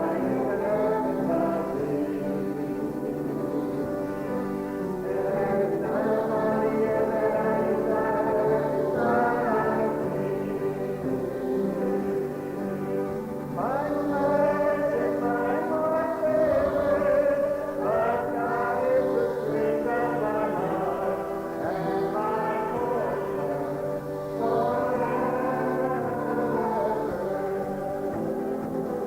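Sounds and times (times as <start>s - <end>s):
choir singing long held notes: 0.0s - 29.0s.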